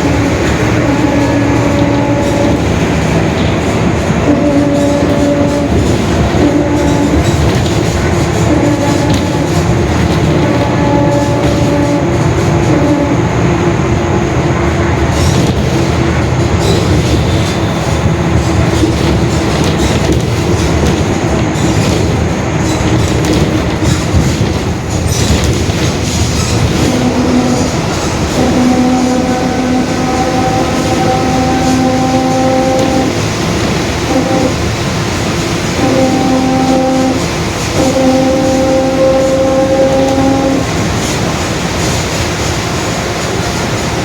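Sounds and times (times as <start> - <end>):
bus engine and road rumble: 0.0 - 44.0.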